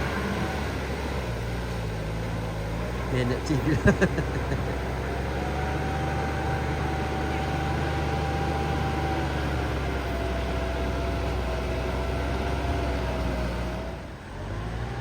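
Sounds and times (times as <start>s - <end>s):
steady whining tone: 0.0s - 14.2s
engine droning hum: 0.0s - 15.0s.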